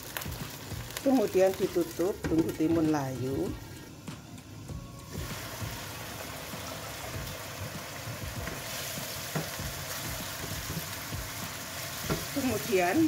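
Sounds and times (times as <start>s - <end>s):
cucumber sizzling in a wok: 0.0s - 3.5s, 5.1s - 13.0s.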